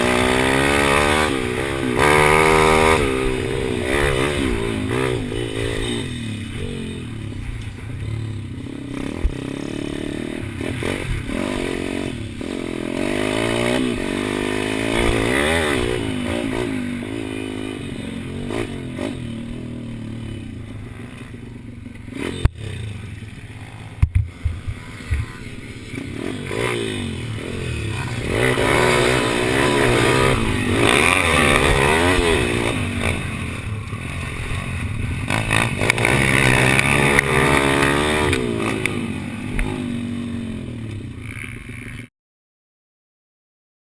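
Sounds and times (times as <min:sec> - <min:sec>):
pit bike engine revving: 0:00.0 - 0:21.4, 0:22.0 - 0:42.1.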